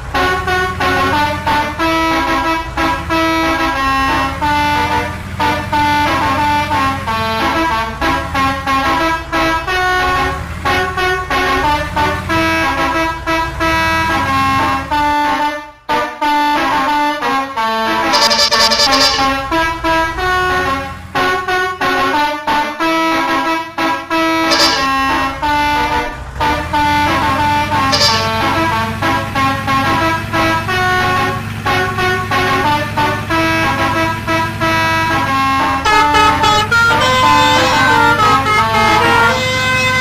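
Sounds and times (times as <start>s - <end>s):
multi-tone bus horn melody: 0.0s - 40.0s.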